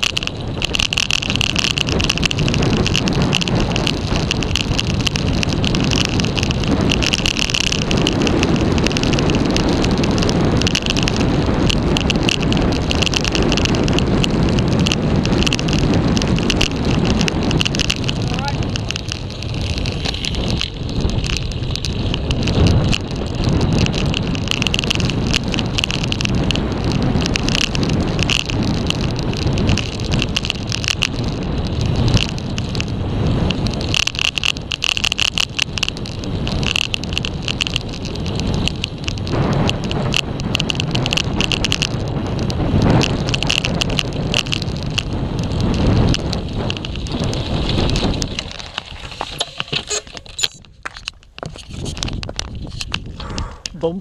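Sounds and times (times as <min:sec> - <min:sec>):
bike rattling over bumps: 0:00.0 - 0:54.0
tyres rumbling on road: 0:00.0 - 0:54.0
wind buffeting microphone: 0:00.0 - 0:54.0.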